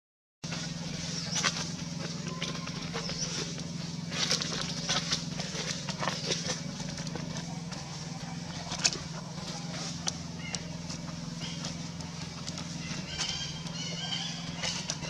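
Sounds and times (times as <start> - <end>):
steady low hum: 0.4 - 15.0.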